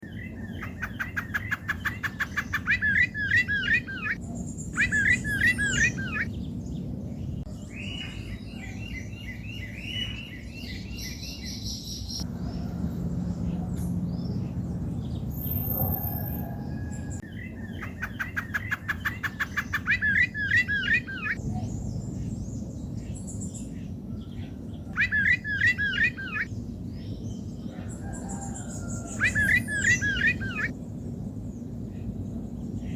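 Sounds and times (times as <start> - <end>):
steady low hum: 2.1 - 10.6, 12.0 - 32.9.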